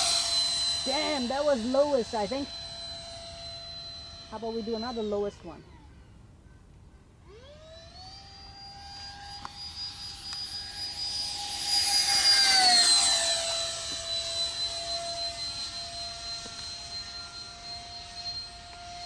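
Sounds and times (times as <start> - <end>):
electric ducted fans whining: 0.0 - 19.0.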